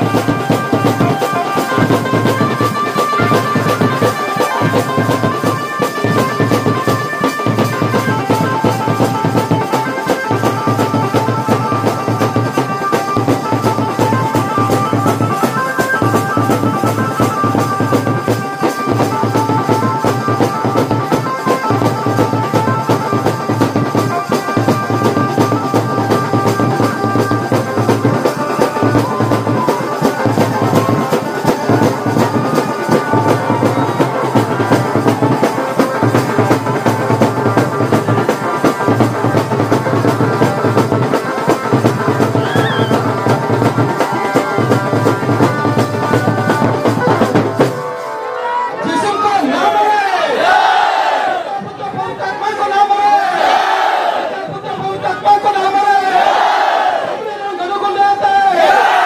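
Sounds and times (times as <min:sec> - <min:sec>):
music with drum beat and melody: 0:00.0 - 0:48.6.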